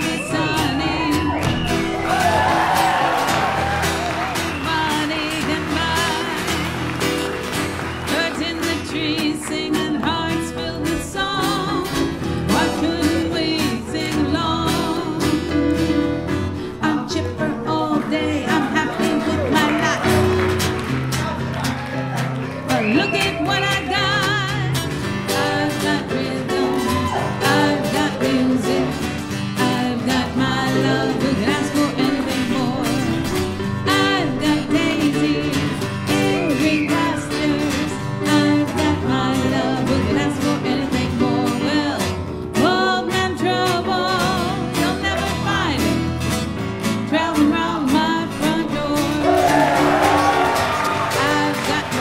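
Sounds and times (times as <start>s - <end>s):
acoustic guitar playing: 0.0s - 52.0s
person singing country song: 0.0s - 52.0s.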